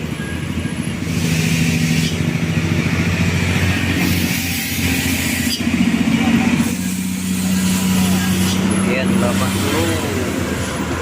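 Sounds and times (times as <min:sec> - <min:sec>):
heavy vehicle engine passing: 0:00.0 - 0:11.0
tyre and road noise: 0:00.0 - 0:11.0.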